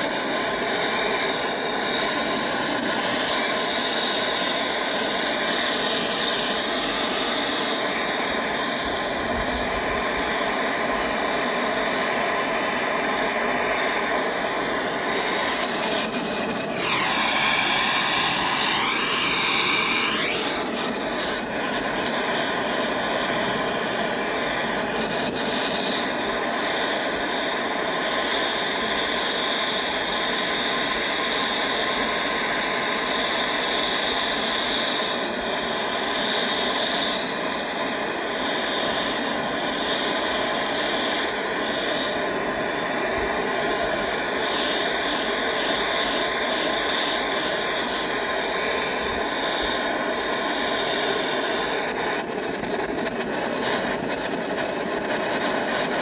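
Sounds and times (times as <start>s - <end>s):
gas torch flame hissing: 0.0s - 56.0s.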